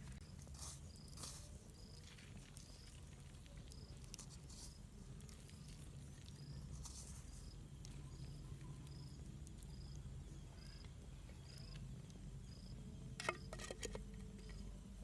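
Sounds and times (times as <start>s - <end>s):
faint insect chirping: 0.0s - 15.0s.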